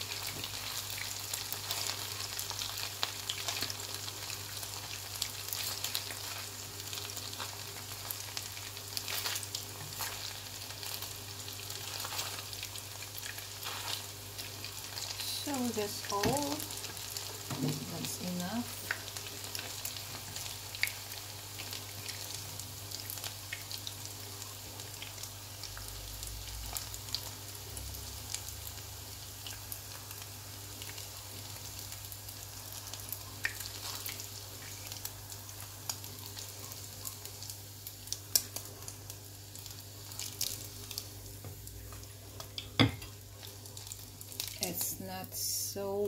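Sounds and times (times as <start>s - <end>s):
meatballs sizzling in oil: 0.0s - 46.0s.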